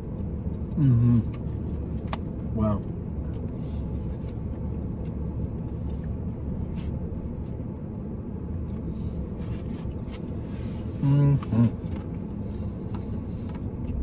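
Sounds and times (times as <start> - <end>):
car idling rumble inside cabin: 0.0 - 14.0.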